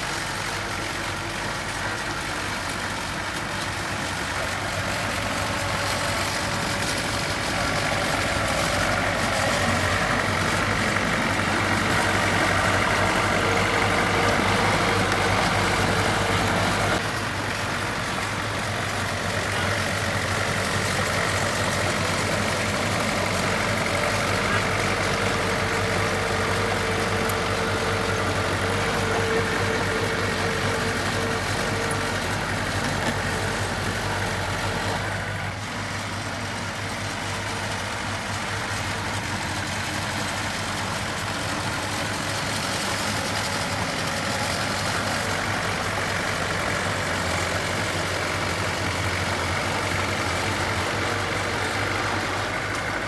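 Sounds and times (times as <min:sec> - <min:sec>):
earthmoving machine engine running: 0:00.0 - 0:53.0.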